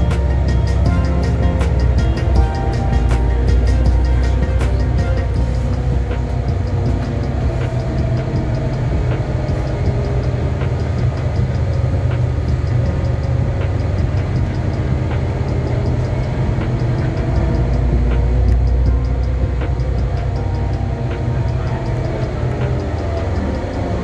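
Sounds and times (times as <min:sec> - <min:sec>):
faint regular ticking: 0:00.0 - 0:24.0
low vehicle rumble: 0:00.0 - 0:24.0.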